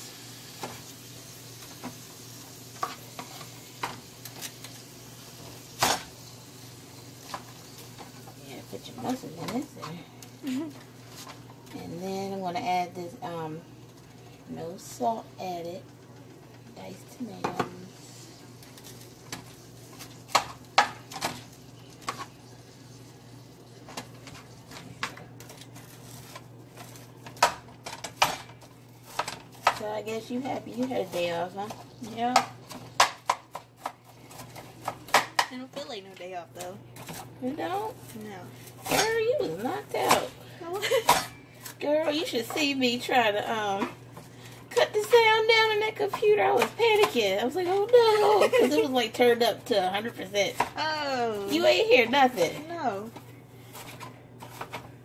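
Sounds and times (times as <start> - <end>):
faint sizzle: 0.0 - 55.0.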